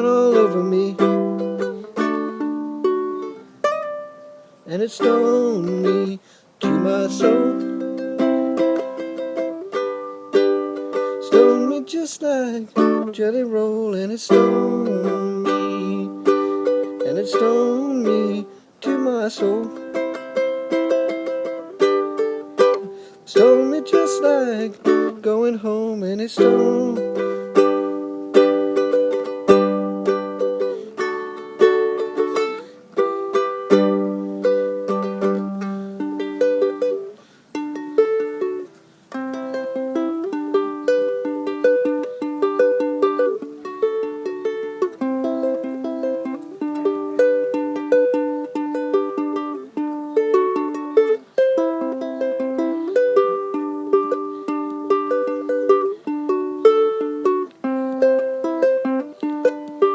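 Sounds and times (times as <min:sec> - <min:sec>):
plucked string instrument: 0:00.0 - 0:59.9.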